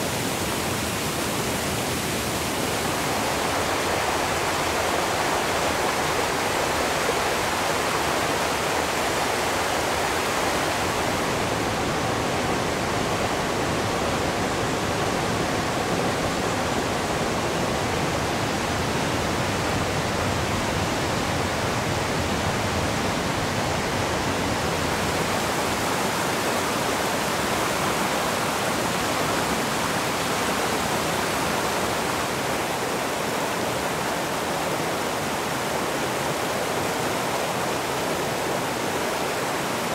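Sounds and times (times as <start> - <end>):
water rushing over rapids: 0.0 - 39.9.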